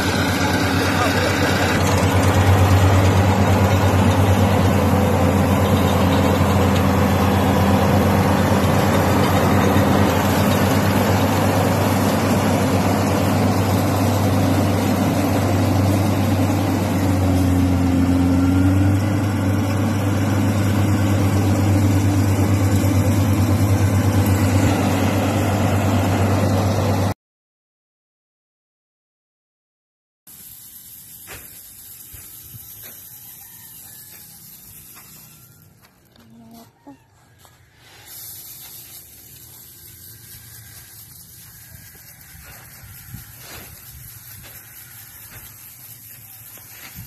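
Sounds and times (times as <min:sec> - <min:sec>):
harvester engine running: 0:00.0 - 0:27.1, 0:30.3 - 0:47.0.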